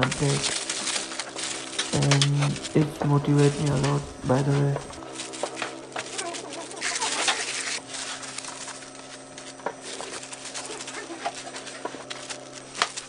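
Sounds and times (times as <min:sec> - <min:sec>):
bread rustling in gloved hands: 0:00.0 - 0:13.0
low hum: 0:00.0 - 0:13.0.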